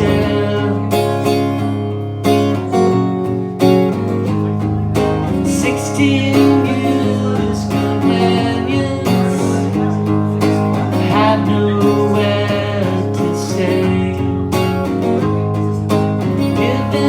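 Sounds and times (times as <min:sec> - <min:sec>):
man singing: 0:00.0 - 0:03.2, 0:05.0 - 0:17.0
acoustic guitar strumming: 0:00.0 - 0:17.0.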